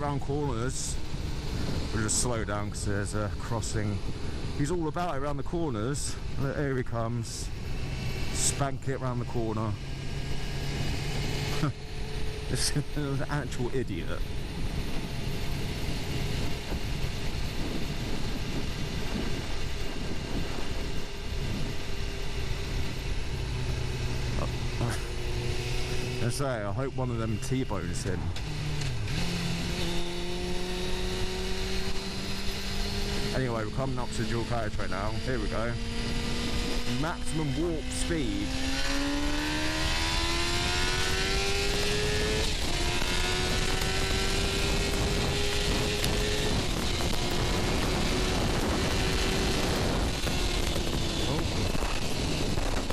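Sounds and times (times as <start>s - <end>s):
wind noise: 0.0s - 8.9s, 9.5s - 52.9s
motorcycle engine revving: 0.0s - 52.9s.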